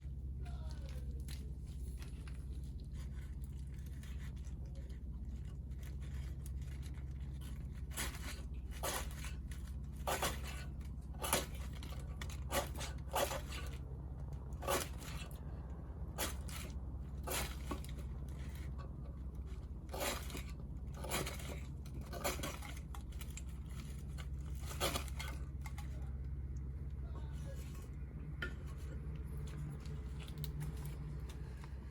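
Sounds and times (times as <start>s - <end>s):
low fire rumble: 0.0s - 31.9s
wood crackling and popping in fire: 0.0s - 31.9s.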